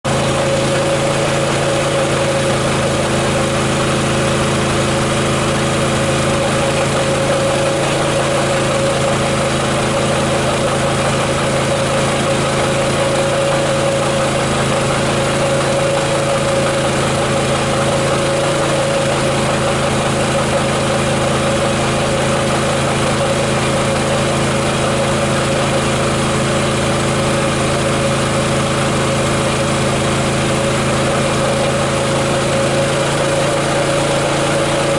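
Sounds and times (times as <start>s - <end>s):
generator running: 0.0s - 34.9s.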